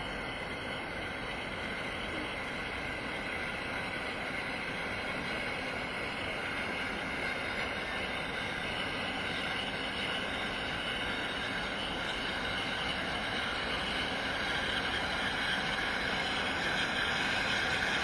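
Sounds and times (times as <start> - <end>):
distant train rumble: 0.0 - 18.0.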